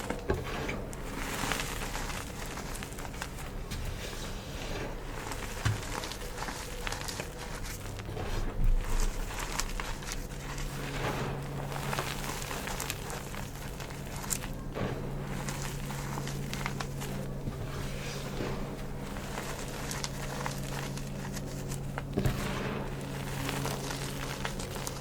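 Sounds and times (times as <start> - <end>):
chalk crushing and crunching: 0.0 - 25.0.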